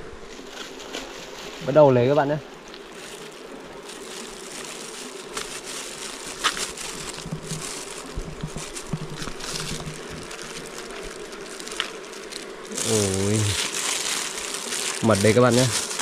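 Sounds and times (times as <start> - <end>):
bees buzzing: 0.0 - 16.0
sharp crackles and knocks: 2.6 - 16.0.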